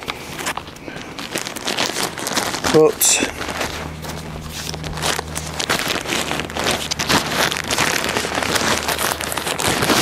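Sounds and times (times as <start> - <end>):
low steady hum: 0.0 - 10.0
plastic bag crinkling: 0.0 - 10.0.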